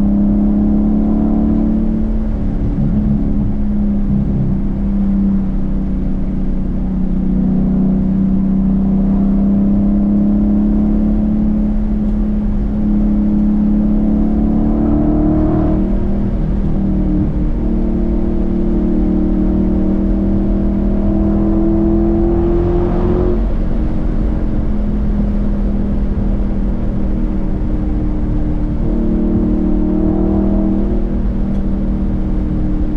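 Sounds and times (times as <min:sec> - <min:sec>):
car engine accelerating and shifting: 0:00.0 - 0:32.9.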